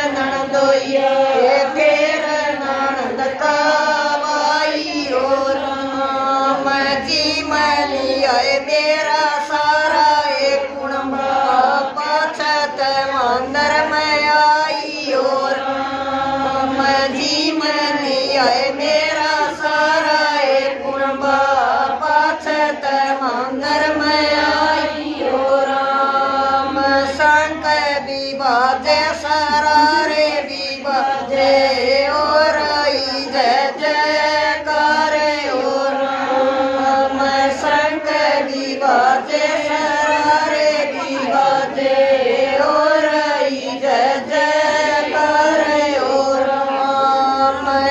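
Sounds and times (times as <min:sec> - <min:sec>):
women singing together: 0:00.0 - 0:47.9.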